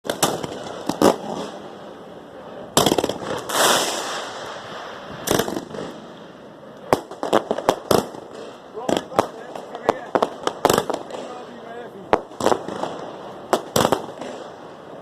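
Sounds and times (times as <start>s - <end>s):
fireworks bangs and pops: 0.0s - 15.0s
fireworks hissing and crackling: 0.0s - 15.0s.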